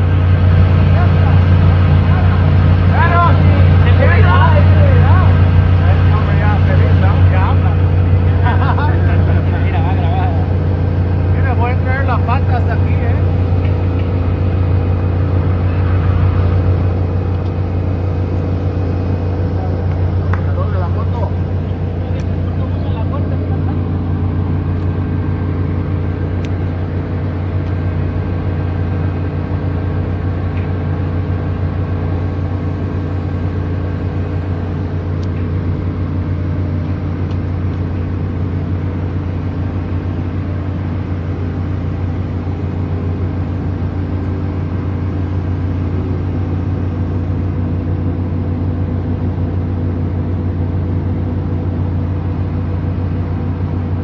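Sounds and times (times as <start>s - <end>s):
engine droning steadily: 0.0s - 54.0s.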